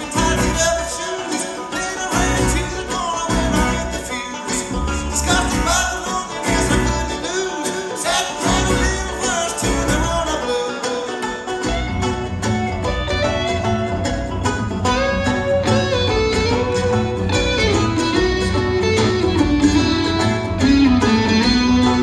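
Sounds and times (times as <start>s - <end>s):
acoustic guitar: 0.0s - 22.0s
mandolin: 0.0s - 22.0s
plucked upright bass: 0.0s - 22.0s.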